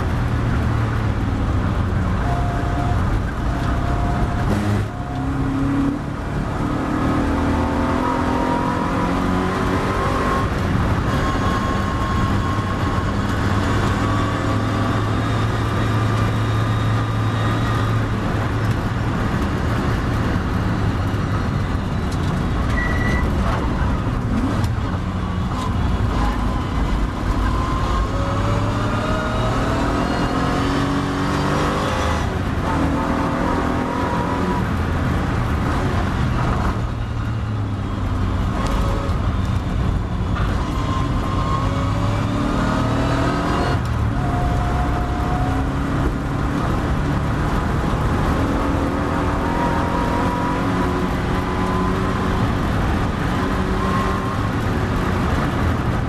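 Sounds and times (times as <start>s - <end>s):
race car engine at full speed: 0.0s - 56.0s.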